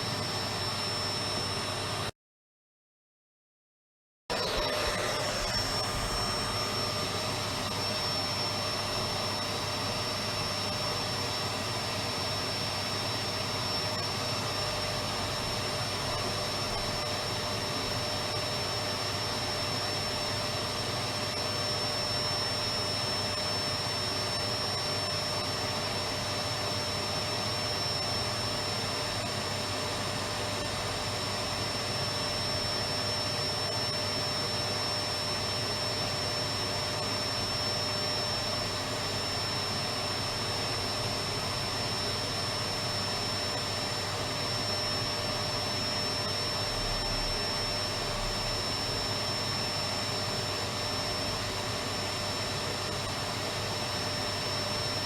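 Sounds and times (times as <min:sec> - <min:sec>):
vacuum cleaner running: 0:00.0 - 0:02.1, 0:04.3 - 0:55.0.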